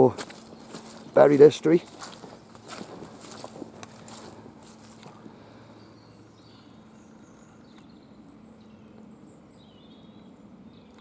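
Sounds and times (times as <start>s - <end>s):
robin singing faintly: 0.0s - 11.0s.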